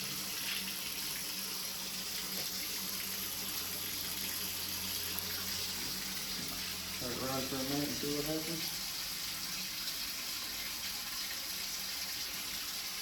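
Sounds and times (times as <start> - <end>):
water running from faucet: 0.0 - 13.0.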